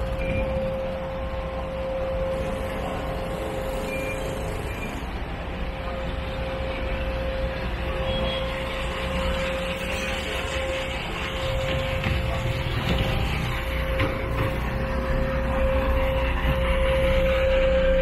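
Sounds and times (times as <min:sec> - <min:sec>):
engine running with whine: 0:00.0 - 0:18.0.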